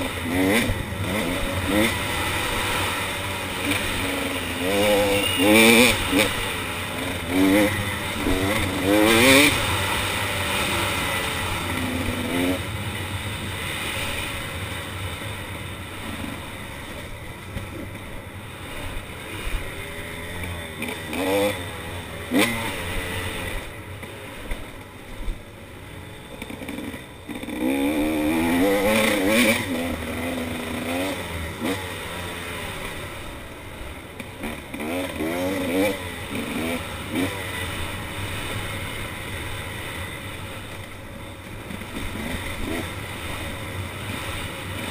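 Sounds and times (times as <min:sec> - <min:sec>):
dirt bike engine revving: 0:00.0 - 0:25.4, 0:26.0 - 0:44.9.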